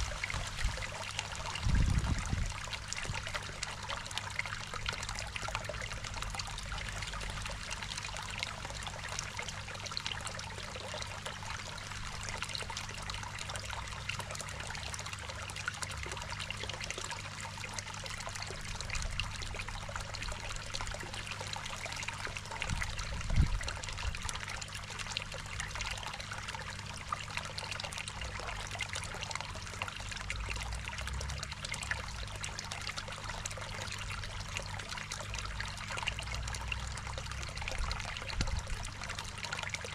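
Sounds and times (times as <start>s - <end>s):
low steady hum: 0.0s - 39.9s
water trickling and splashing: 0.0s - 39.9s.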